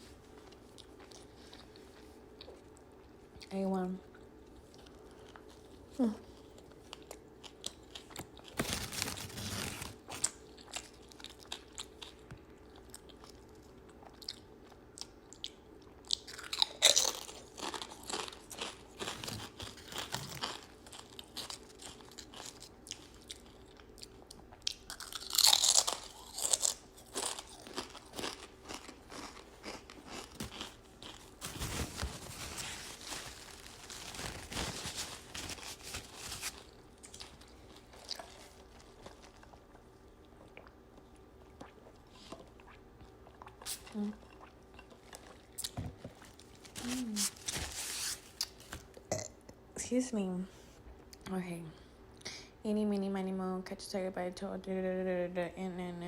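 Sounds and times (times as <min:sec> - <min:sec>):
person chewing with crunches: 0:00.1 - 0:03.5, 0:04.1 - 0:49.2.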